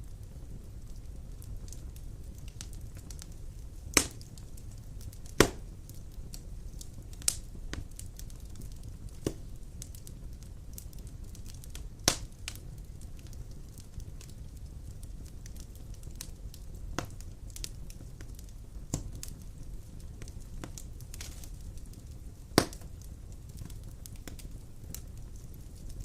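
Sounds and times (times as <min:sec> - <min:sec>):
faint fire crackling: 0:00.0 - 0:26.0
low rumble of flames: 0:00.0 - 0:26.0
sharp pops of burning wood: 0:00.2 - 0:26.0.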